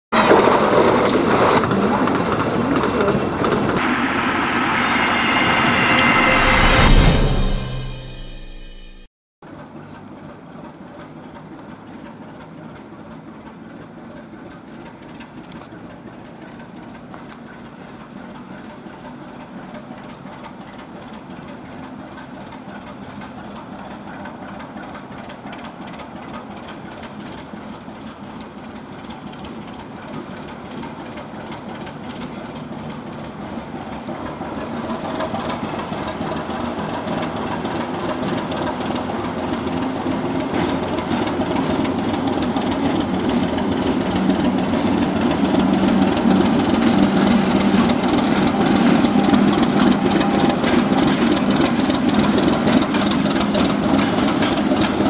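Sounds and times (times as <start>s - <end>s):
diesel locomotive engine: 0.1s - 55.0s
wheels ticking: 10.1s - 55.0s.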